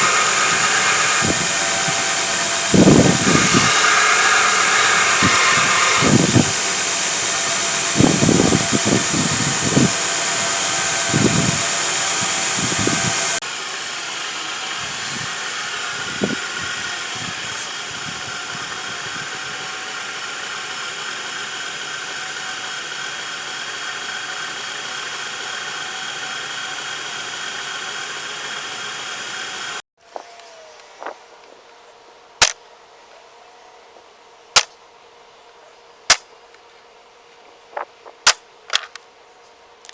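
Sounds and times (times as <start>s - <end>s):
shop equipment hissing roar: 0.0s - 39.9s.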